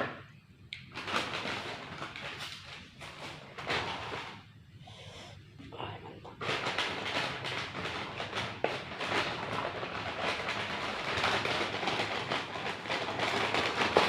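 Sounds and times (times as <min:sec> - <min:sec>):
food packaging crinkling: 0:00.8 - 0:04.5, 0:06.3 - 0:14.0.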